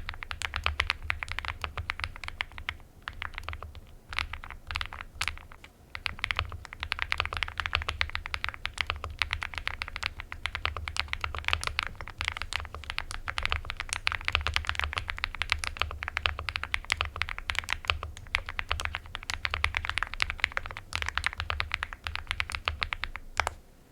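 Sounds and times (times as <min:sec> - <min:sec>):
mechanical keyboard typing: 0:00.0 - 0:23.6.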